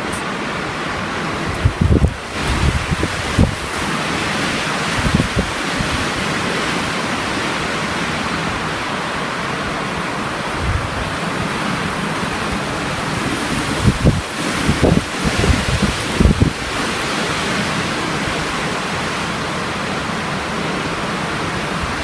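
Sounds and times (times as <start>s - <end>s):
wind buffeting microphone: 0.0s - 9.1s, 9.7s - 19.2s
strong wind rushing: 0.0s - 19.9s.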